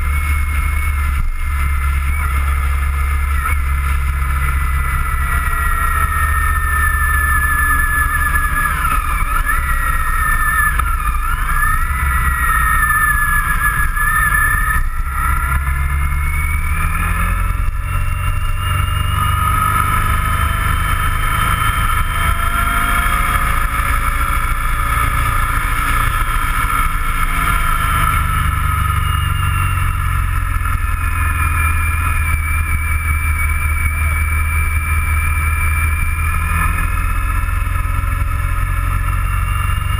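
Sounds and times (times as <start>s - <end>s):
motorcycle engine whine: 0.0s - 39.9s
wind and road rumble: 0.0s - 39.9s.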